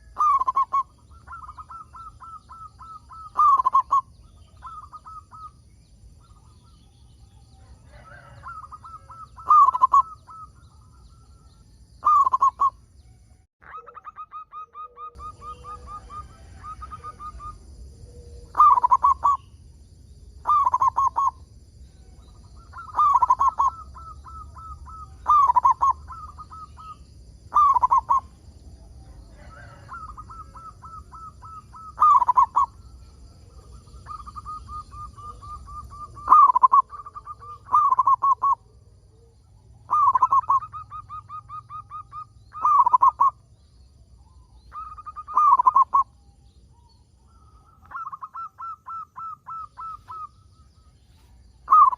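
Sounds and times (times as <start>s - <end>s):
dove cooing: 0.0s - 12.8s, 13.6s - 19.5s, 20.4s - 43.6s, 44.2s - 51.9s.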